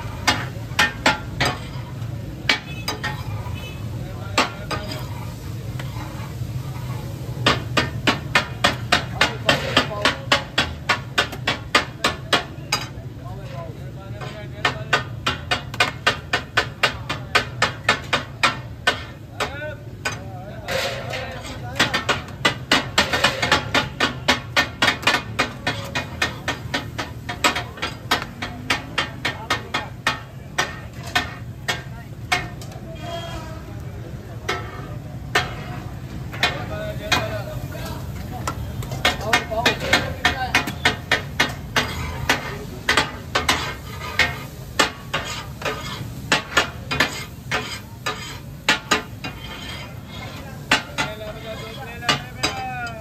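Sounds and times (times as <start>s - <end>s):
metal spatulas clanging on griddle: 0.0s - 53.0s.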